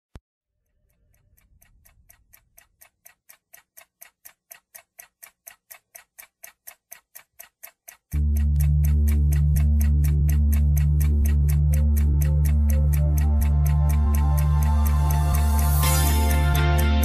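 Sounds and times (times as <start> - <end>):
clock ticking: 0.6 - 17.0.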